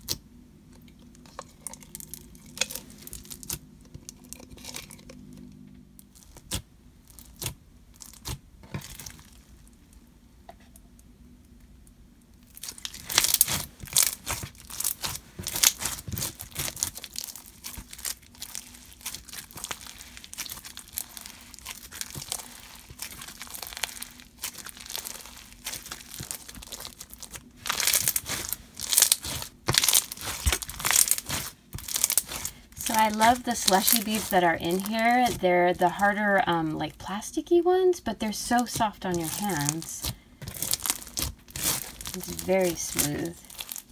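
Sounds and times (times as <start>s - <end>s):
slime beads crunching: 1.2s - 5.3s, 6.1s - 9.5s, 12.4s - 43.9s.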